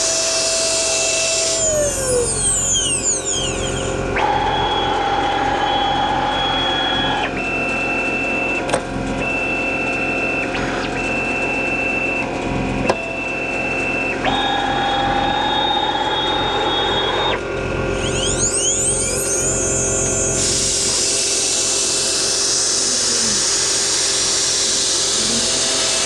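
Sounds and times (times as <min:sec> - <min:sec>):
router motors whining: 0:00.0 - 0:26.0.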